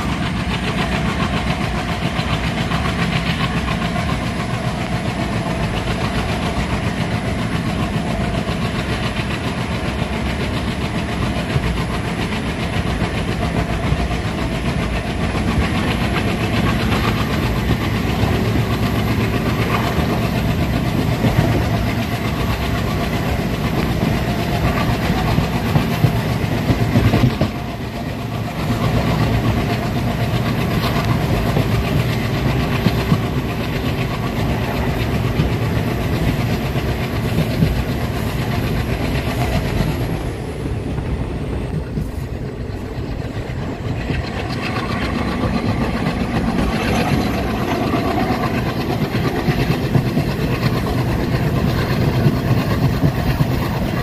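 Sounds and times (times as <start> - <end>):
clickety-clack over rail joints: 0.0 - 54.0
train wheels rumbling on rail: 0.0 - 54.0.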